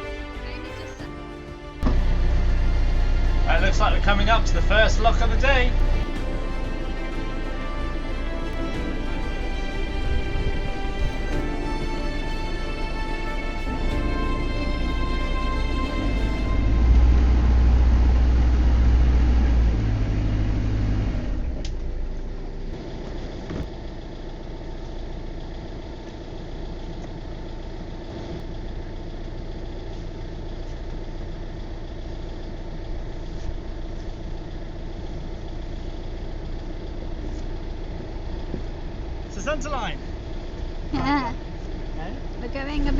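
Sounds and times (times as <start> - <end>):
boat engine running: 0.0 - 42.9.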